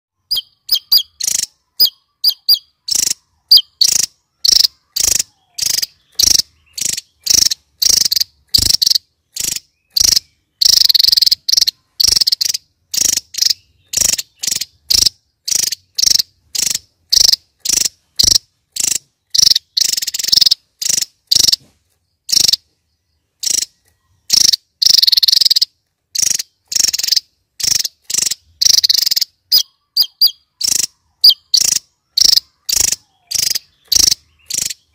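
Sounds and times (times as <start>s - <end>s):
bird singing high chirps and trills: 0.2s - 34.9s.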